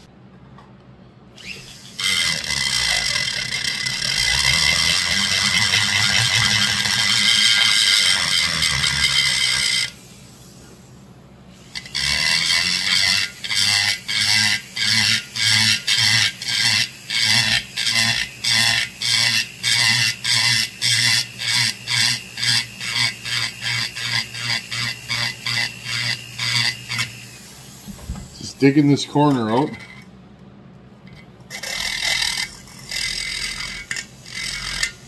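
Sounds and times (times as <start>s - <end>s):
rotary tool cutting metal: 1.4s - 10.0s, 11.6s - 27.5s, 31.1s - 35.0s.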